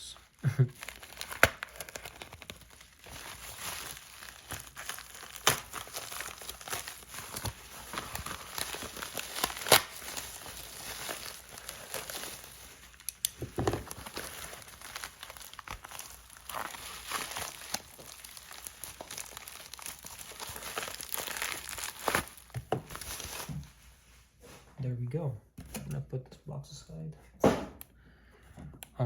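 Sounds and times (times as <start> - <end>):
packing material crinkling and tearing: 0.0 - 23.8.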